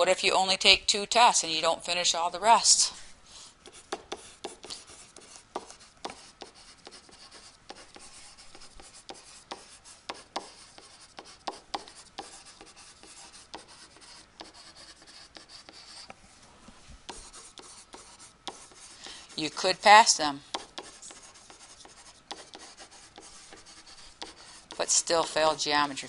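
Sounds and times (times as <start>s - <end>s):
stylus scratching on tablet: 3.6s - 16.1s, 17.0s - 26.0s.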